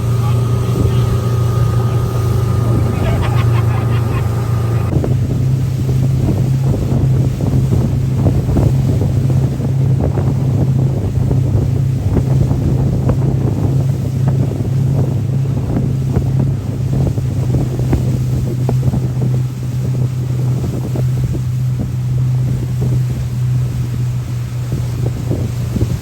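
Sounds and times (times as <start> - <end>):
motorboat engine droning: 0.0 - 26.0
wind buffeting microphone: 0.0 - 26.0.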